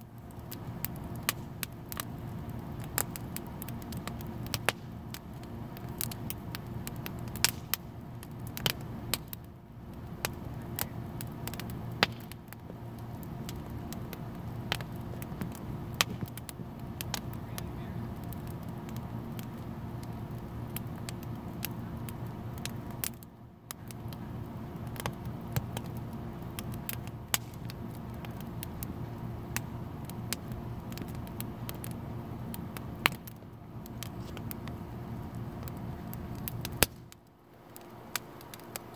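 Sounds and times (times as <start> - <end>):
steady low hum: 0.0 - 38.9
wood fire crackling and popping: 0.0 - 38.9.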